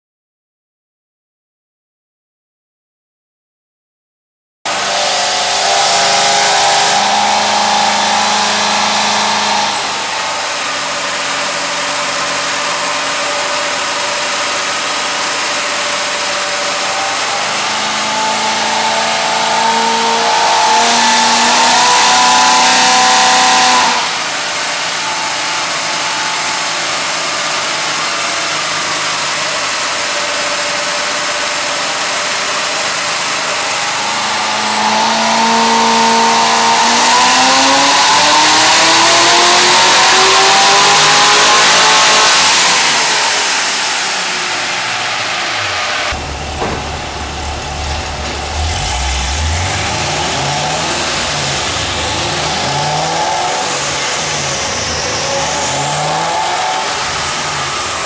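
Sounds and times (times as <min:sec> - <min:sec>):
car engine revving on dyno: 0:04.7 - 0:58.0.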